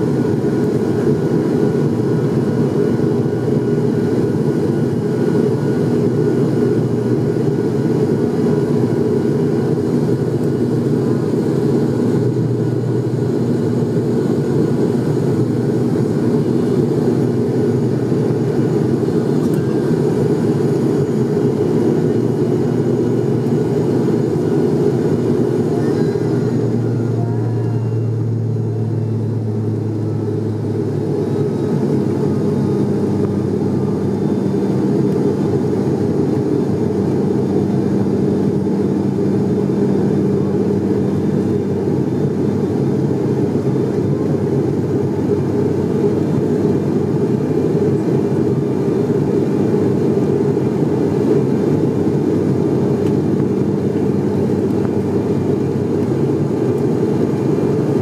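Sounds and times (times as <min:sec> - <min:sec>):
low multi-tone hum: 0:00.0 - 0:58.0
turboprop engine drone: 0:00.0 - 0:58.0.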